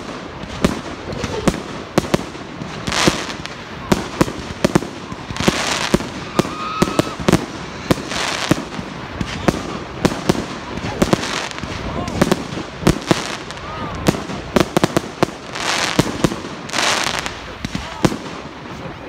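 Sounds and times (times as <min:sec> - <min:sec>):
crackling hiss of fireworks: 0:00.0 - 0:19.0
fireworks bursting with sharp bangs: 0:00.0 - 0:19.0.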